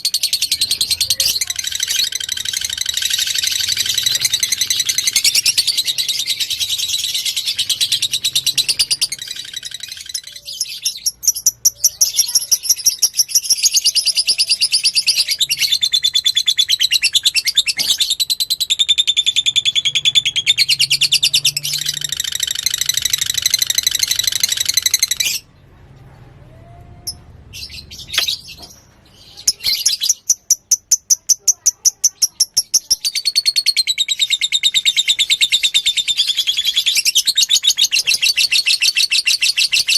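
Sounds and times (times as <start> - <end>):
bird chattering trills: 0.0 - 25.5, 29.3 - 39.9.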